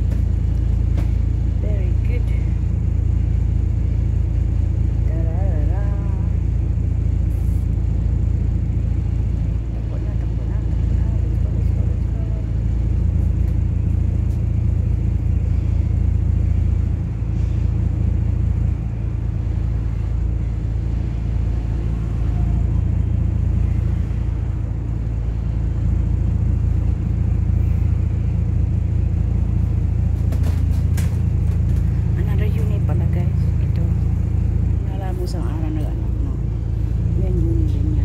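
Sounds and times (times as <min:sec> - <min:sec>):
bus engine rumble: 0:00.0 - 0:38.0
constant low hum: 0:00.0 - 0:38.0.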